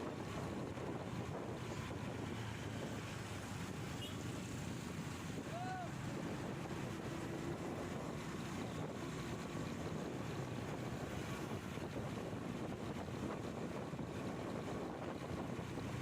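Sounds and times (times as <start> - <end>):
wind buffeting microphone: 0.0 - 3.9, 4.6 - 16.0.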